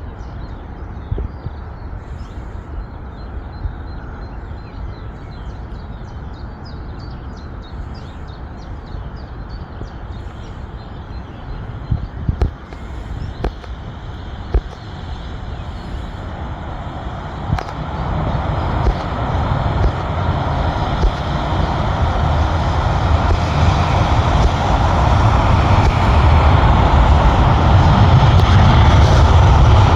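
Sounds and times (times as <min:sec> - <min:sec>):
jet airliner engine roar: 0:00.0 - 0:29.9.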